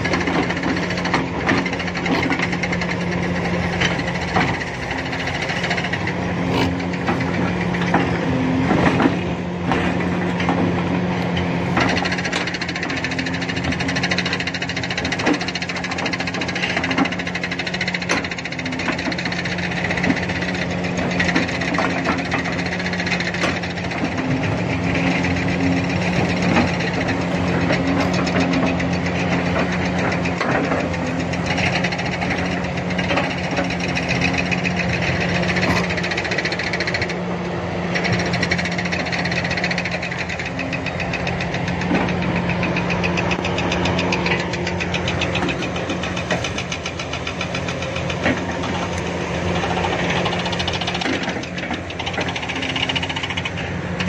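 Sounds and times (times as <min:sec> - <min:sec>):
excavator diesel engine clattering: 0:00.0 - 0:54.0.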